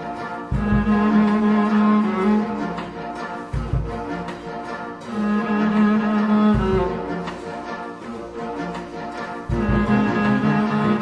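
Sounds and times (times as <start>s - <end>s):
low bowed strings: 0.0s - 11.0s.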